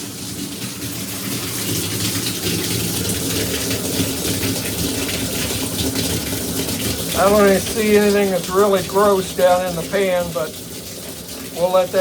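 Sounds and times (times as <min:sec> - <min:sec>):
water gushing into shower pan: 0:00.0 - 0:12.0.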